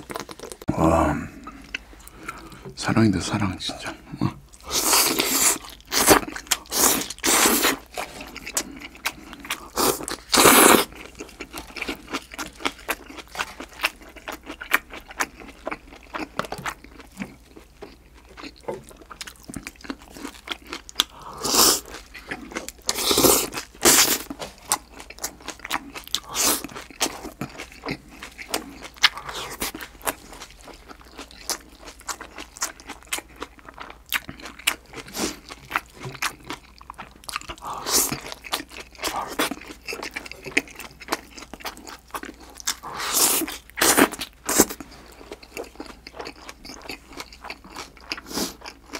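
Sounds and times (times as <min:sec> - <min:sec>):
chewing and crunching salad: 0:00.0 - 0:48.9.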